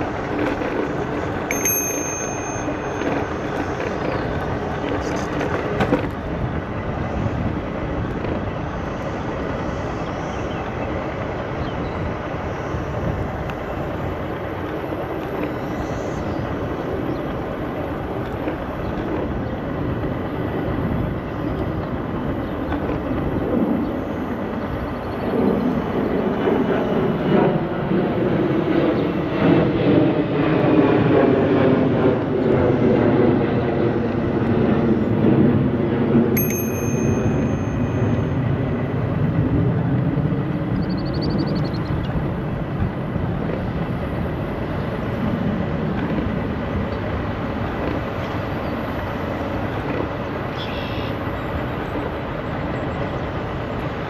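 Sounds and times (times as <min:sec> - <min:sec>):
jet airplane rumble: 0:00.0 - 0:54.0
tyres and wind rushing: 0:00.0 - 0:54.0.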